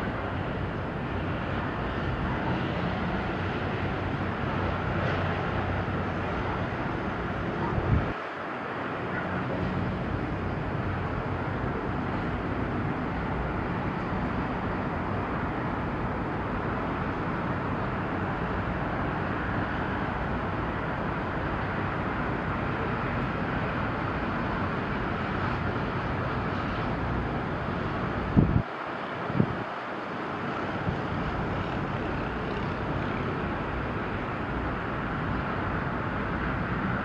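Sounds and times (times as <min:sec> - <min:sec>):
harbour noise: 0:00.0 - 0:37.0
low engine hum of vessels: 0:00.0 - 0:37.0.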